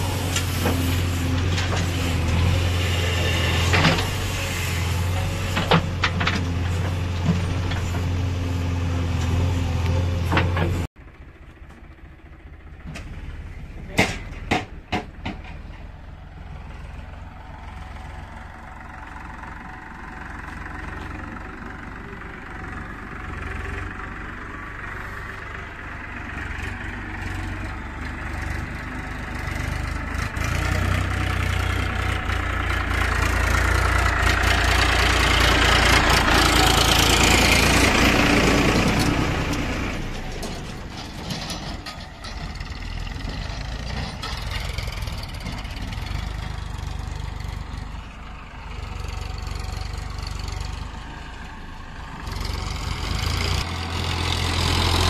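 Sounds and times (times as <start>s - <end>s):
backhoe loader engine running: 0.0s - 55.0s
tractor diesel engine under load: 0.0s - 55.0s.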